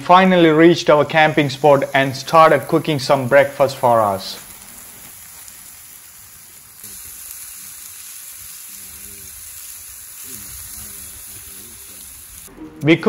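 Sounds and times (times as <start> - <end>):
steak sizzling: 0.2 - 12.5.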